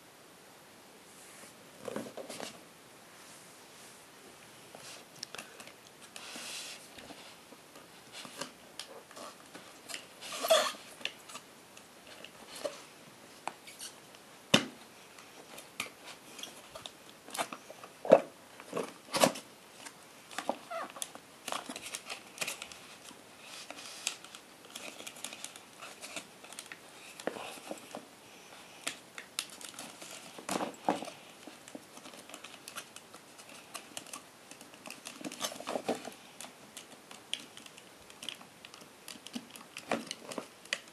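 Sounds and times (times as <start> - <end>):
plastic and cardboard rustling: 1.1 - 2.7, 4.7 - 40.9.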